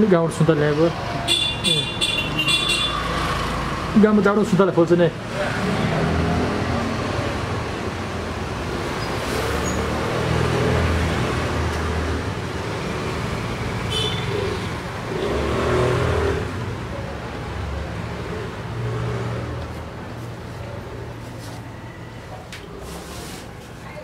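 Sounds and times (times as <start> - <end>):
motorbikes and cars passing: 0.0 - 22.8.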